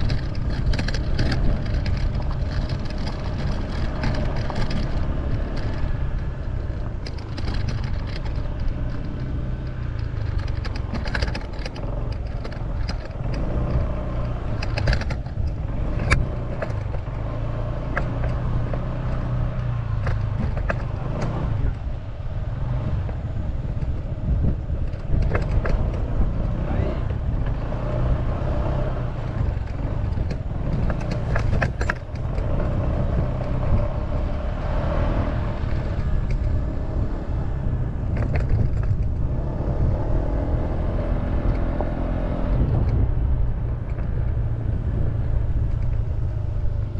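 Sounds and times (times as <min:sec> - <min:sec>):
scooter engine running: 0:00.0 - 0:46.9
tyres crunching on loose dirt: 0:00.0 - 0:46.9.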